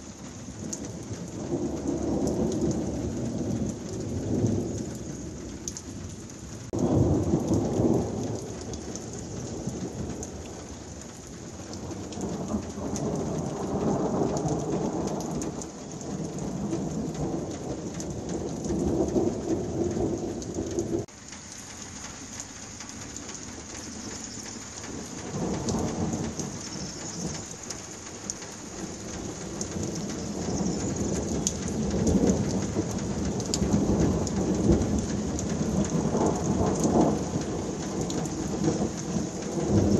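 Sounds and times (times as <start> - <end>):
heavy rain hissing: 0.0 - 39.9
thunder rumbling: 0.0 - 39.9.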